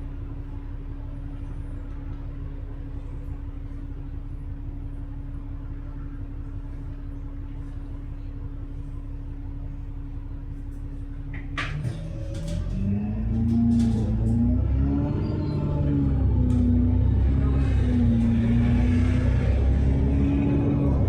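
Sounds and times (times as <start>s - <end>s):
bus engine and road rumble: 0.0s - 21.0s
constant hum: 0.0s - 21.0s.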